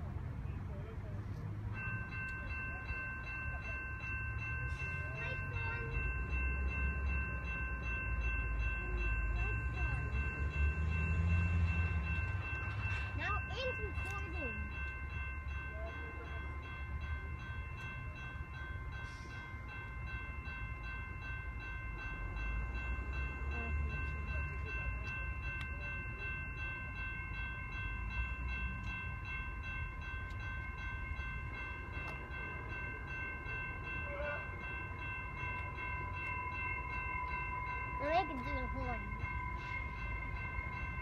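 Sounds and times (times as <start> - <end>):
train rumble: 0.0 - 41.0.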